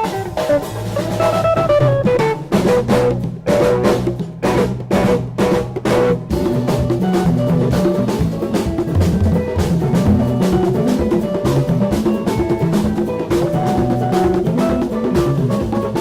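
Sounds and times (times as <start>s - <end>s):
bass drum and snare: 0.0s - 16.0s
live band playing: 0.0s - 16.0s.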